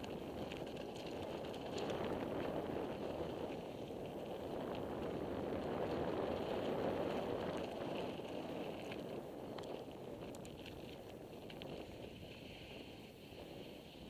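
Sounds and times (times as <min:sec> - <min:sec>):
small clicks and rattles: 0:00.0 - 0:12.2
bicycle tyres rolling on dirt: 0:00.0 - 0:14.0
wind buffeting microphone: 0:00.0 - 0:14.0.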